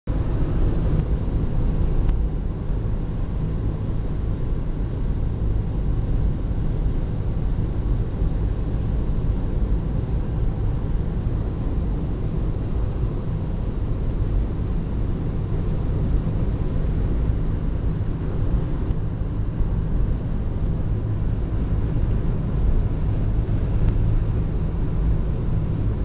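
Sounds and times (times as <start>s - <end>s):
road and engine noise in car: 0.1s - 26.0s.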